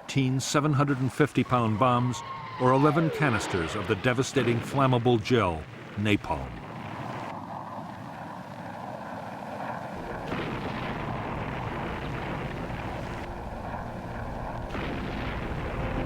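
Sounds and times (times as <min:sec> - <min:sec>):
aircraft engine roar: 0:00.7 - 0:04.8, 0:05.5 - 0:16.0.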